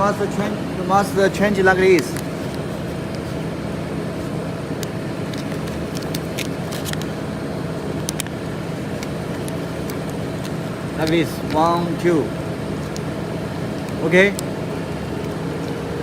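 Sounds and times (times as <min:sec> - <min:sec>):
tape machine humming: 0:00.0 - 0:16.0.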